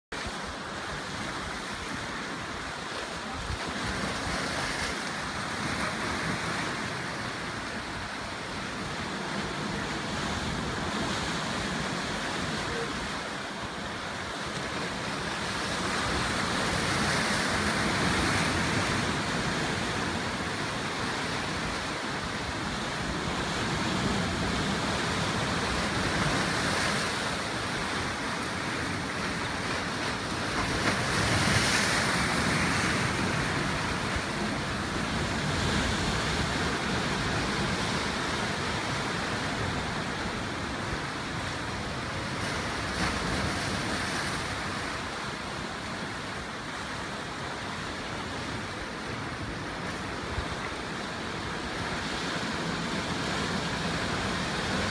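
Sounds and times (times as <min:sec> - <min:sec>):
ocean surf on rocky shore: 0:00.1 - 0:54.9.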